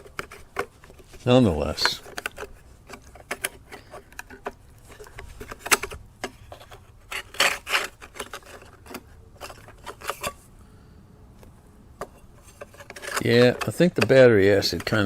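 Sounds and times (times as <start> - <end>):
clicks and knocks of handling: 0.0 - 10.4, 11.4 - 15.0.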